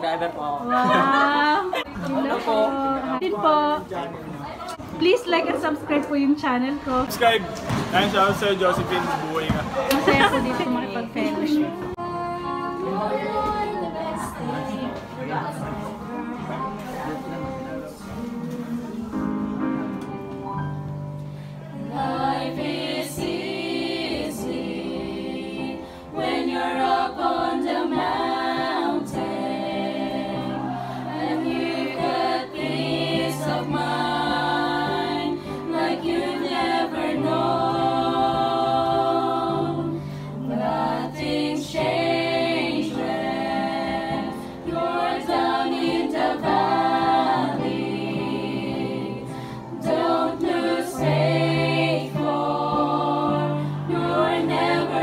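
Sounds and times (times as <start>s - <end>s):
women singing together: 0.7s - 3.8s, 9.9s - 19.8s, 21.7s - 55.0s
piano accompaniment: 7.1s - 55.0s.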